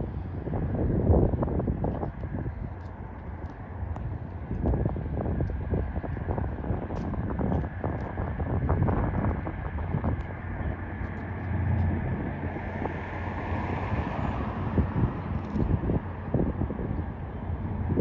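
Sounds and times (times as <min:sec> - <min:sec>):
road traffic rumble: 0:00.0 - 0:18.0
wind buffeting microphone: 0:00.0 - 0:18.0.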